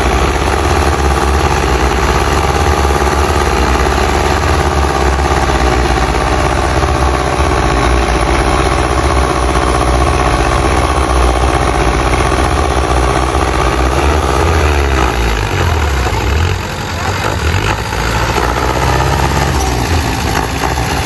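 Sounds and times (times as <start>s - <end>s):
tractor diesel engine thumping: 0.0s - 21.0s.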